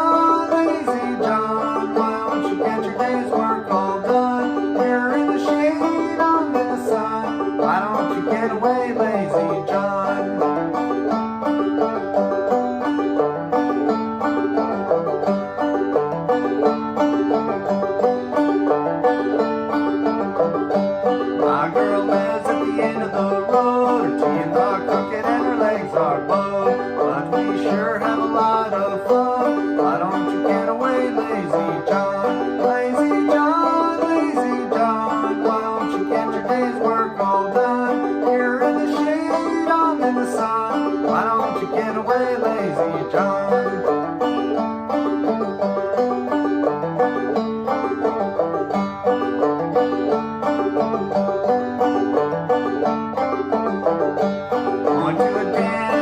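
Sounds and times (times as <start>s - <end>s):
banjo tune: 0.0s - 56.0s.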